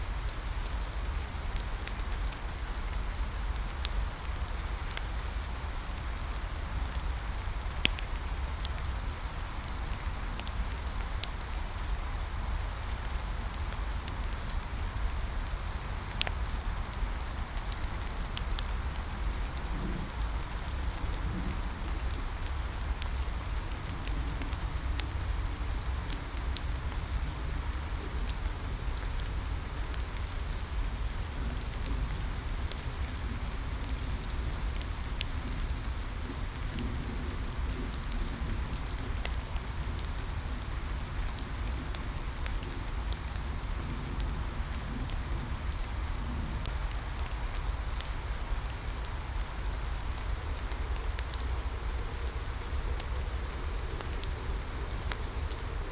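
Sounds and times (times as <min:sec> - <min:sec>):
bonfire crackles: 0:00.0 - 0:55.9
steady rain falling: 0:00.0 - 0:55.9.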